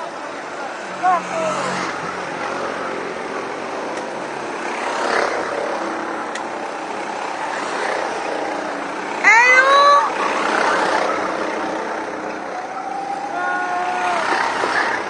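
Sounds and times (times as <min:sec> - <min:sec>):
go-kart engines buzzing: 0:00.0 - 0:15.0.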